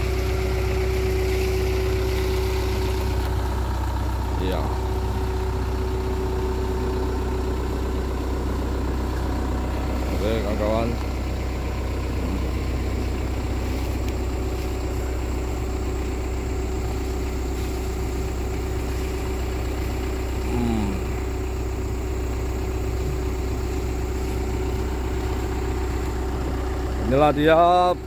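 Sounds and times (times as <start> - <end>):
excavator diesel engine idling: 0.0 - 28.0.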